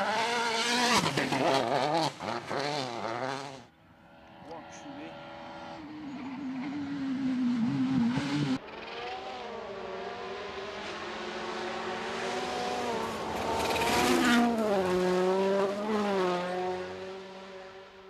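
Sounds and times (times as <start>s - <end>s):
rally car engine revving past: 0.0s - 4.5s, 5.1s - 17.9s.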